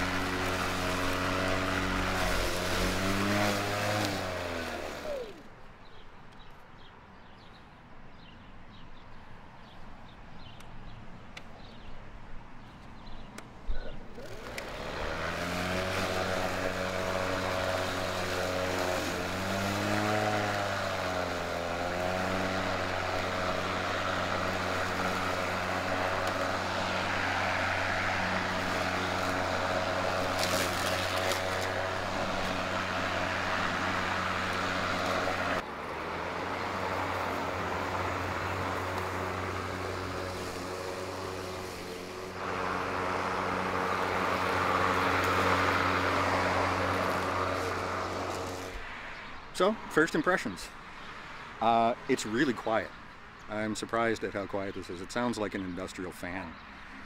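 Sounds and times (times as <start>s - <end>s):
lawn mower cutting grass: 0.0s - 6.0s, 13.1s - 57.0s.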